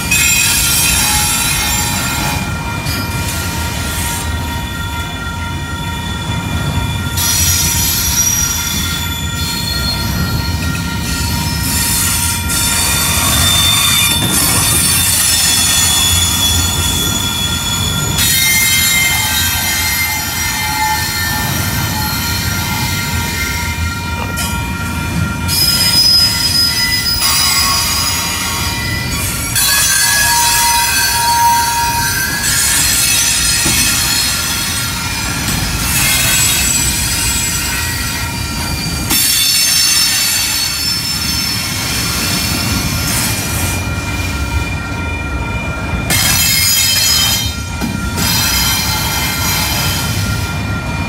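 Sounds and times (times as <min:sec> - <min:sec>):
freight train rumble: 0:00.0 - 0:51.0
train wheels squealing: 0:00.0 - 0:51.0.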